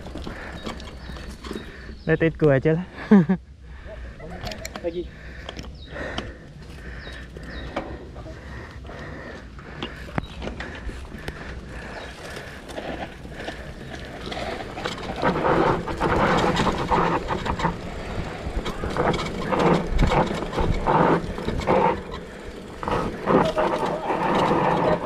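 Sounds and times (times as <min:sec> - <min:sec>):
bike rattling over bumps: 0:00.0 - 0:02.5, 0:04.2 - 0:25.0
bike tyres on dirt trail: 0:00.0 - 0:25.0.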